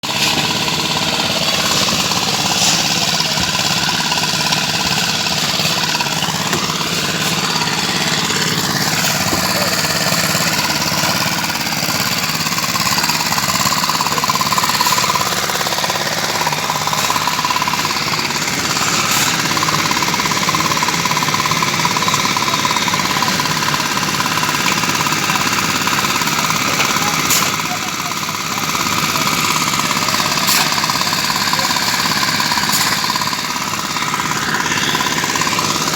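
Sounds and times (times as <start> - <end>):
machinery engine rattling: 0.0 - 35.9.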